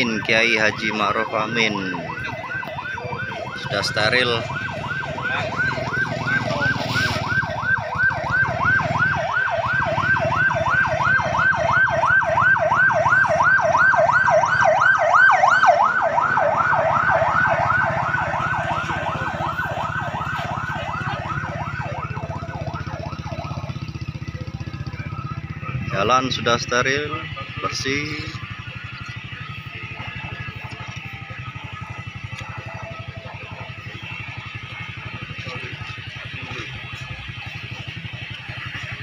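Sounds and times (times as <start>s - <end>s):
low rumble of vehicle engines: 0.0s - 39.0s
police siren yelping: 0.0s - 39.0s.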